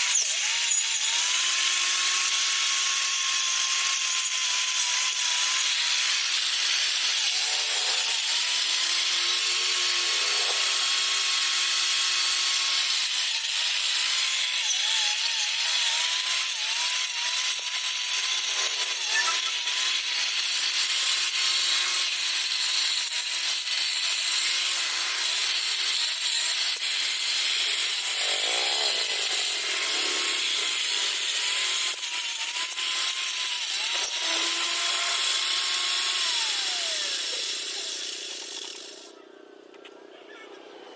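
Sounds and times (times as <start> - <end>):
angle grinder grass cutter whining: 0.0 - 40.9.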